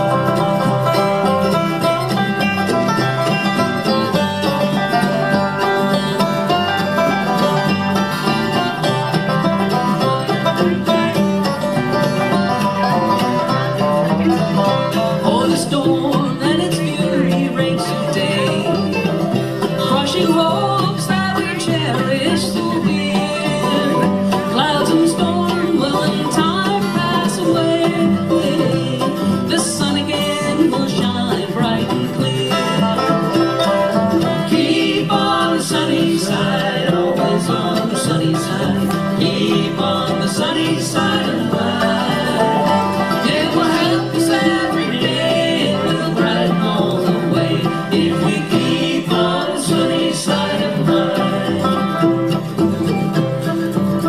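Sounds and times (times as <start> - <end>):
bluegrass band playing: 0.0 - 54.0.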